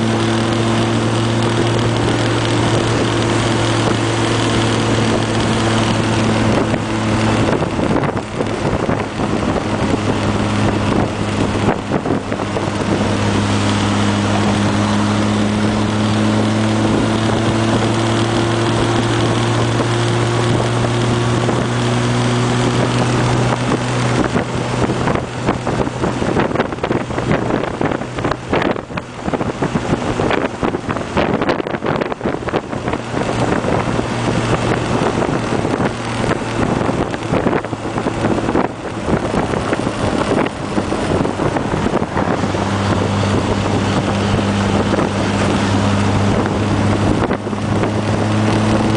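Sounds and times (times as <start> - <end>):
car engine cruising: 0.0 - 48.9
wind buffeting microphone: 0.0 - 48.9
wind rushing: 0.0 - 48.9.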